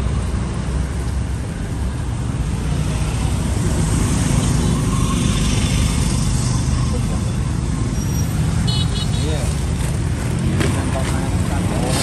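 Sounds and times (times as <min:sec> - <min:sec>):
vehicle engines running: 0:00.0 - 0:12.0.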